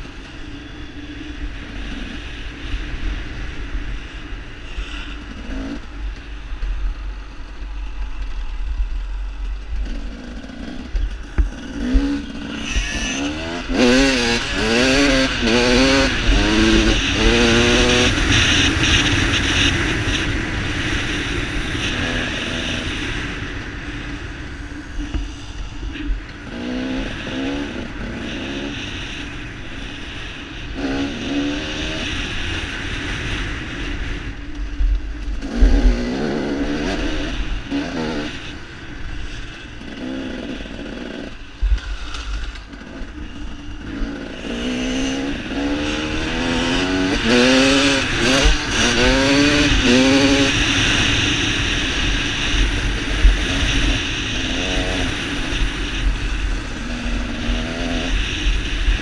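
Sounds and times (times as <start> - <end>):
dirt bike engine revving: 9.6 - 34.4, 35.4 - 59.0.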